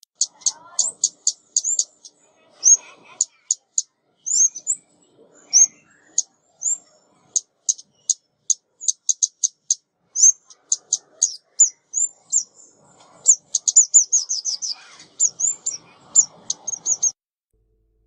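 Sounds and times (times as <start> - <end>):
high thin bird chirps: 0.0 - 17.2.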